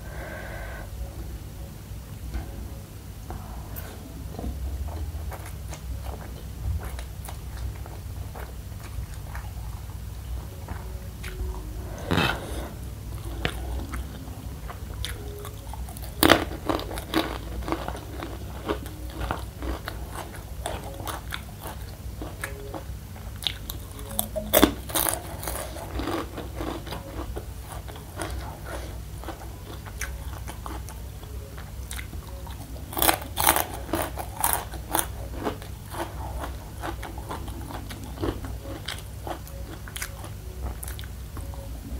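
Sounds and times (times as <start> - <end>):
steady low hum: 0.0 - 41.9
crunchy chewing: 4.8 - 41.7.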